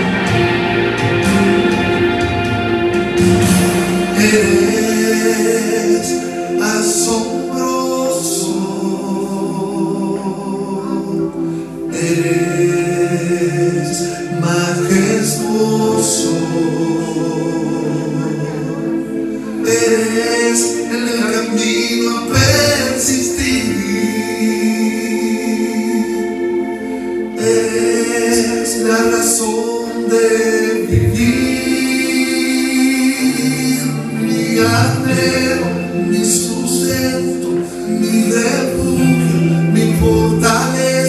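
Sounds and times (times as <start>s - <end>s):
instrumental accompaniment: 0.0s - 41.0s
voices singing worship song: 0.0s - 41.0s.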